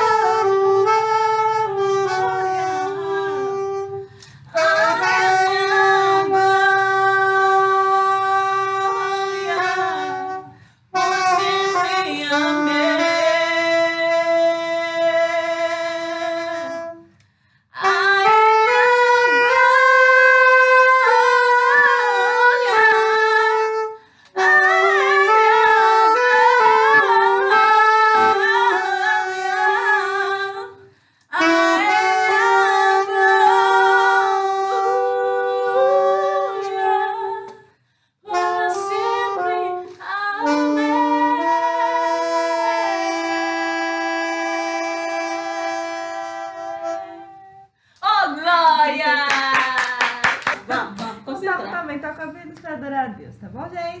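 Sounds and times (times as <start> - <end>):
saxophone playing slow melody: 0.0 - 37.6, 38.3 - 47.8.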